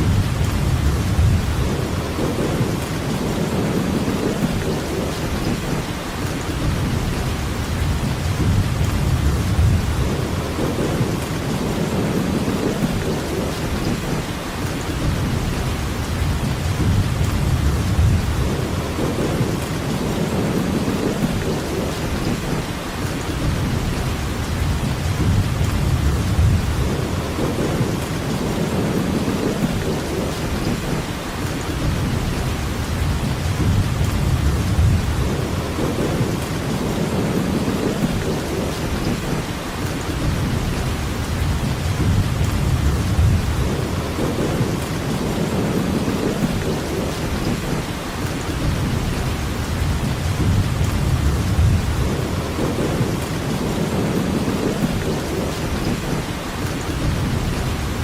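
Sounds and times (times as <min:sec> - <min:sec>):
heavy rain hissing: 0:00.0 - 0:58.0
low rolling thunder: 0:00.0 - 0:58.0.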